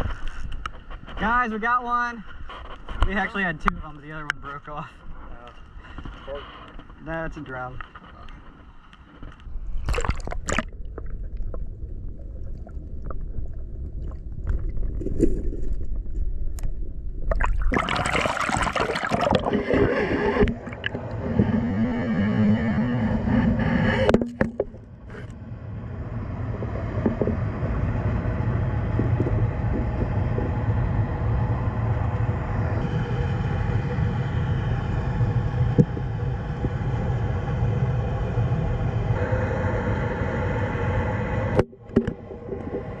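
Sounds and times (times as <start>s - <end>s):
underwater rumble of turbulent water: 7.8s - 43.0s.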